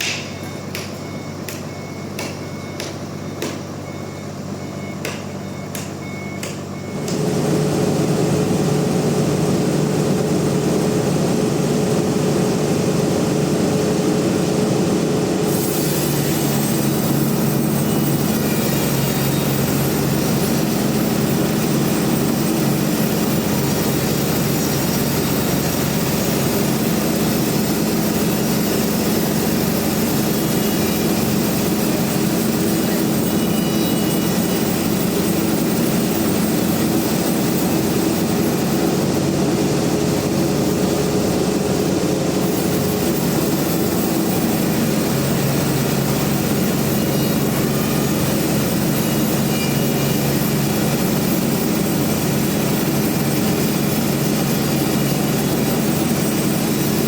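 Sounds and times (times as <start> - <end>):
heavy machinery engine running: 0.0 - 57.0.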